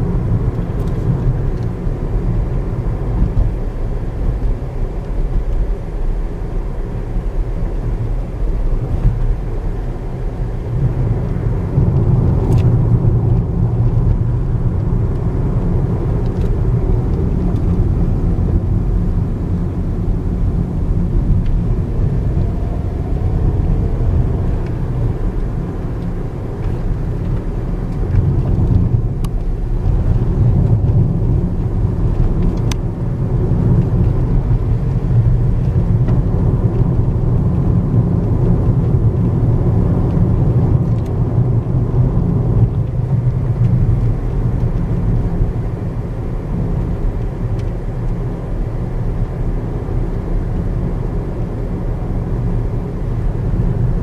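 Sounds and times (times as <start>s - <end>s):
engine and tyre rumble: 0.0s - 54.0s.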